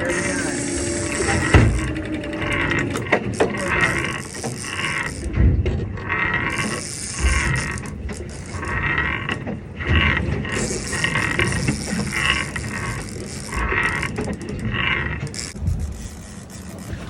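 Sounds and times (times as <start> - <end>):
fishing reel drag ratcheting: 0.0 - 5.4, 6.0 - 17.0.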